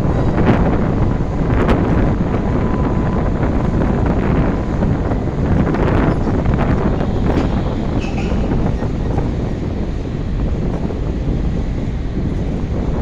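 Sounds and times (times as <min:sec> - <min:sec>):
wind gusting against microphone: 0:00.0 - 0:13.0.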